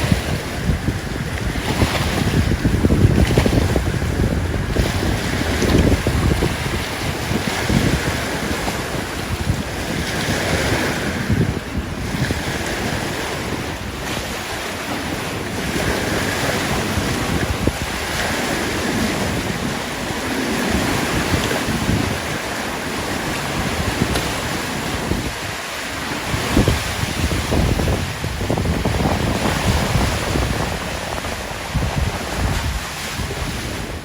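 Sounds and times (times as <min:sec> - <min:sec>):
rushing water: 0:00.0 - 0:34.0
wind buffeting microphone: 0:00.0 - 0:34.0.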